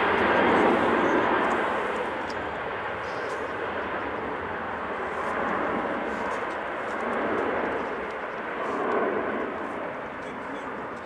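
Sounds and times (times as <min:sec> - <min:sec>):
jet engines roaring at takeoff: 0:00.0 - 0:11.0.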